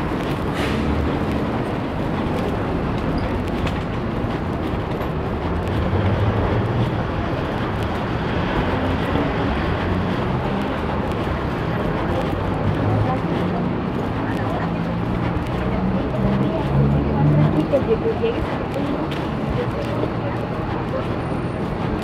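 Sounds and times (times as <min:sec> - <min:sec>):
tyres on road: 0:00.0 - 0:22.0
vehicle engines: 0:00.0 - 0:22.0.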